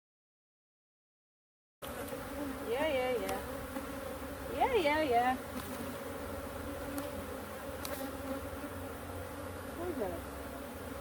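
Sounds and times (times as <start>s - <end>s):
bees buzzing: 1.8s - 11.0s.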